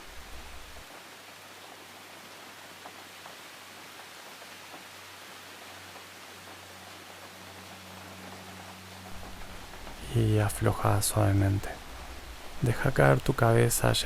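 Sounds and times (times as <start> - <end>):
rain hiss: 0.0 - 14.0
faint raindrop ticks: 0.3 - 14.0.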